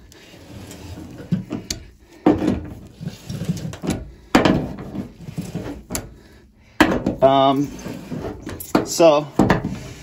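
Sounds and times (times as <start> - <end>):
metal clanks and scraping: 0.3 - 6.2, 6.8 - 10.0.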